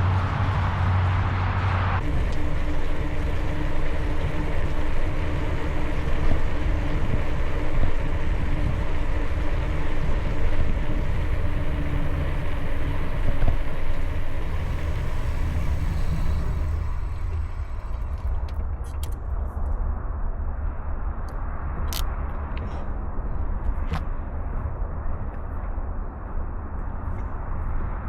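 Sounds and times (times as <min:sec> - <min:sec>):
low riding rumble: 0:00.0 - 0:28.0
steady hum: 0:00.0 - 0:28.0
wind on microphone: 0:00.0 - 0:28.0.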